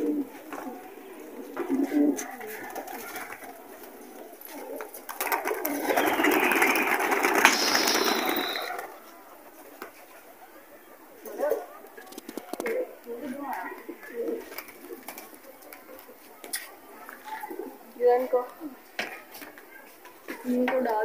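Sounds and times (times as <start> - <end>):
pigeon wingbeats clattering: 0.0 - 10.5, 11.2 - 17.8
pigeons cooing: 0.0 - 16.2, 17.1 - 18.0.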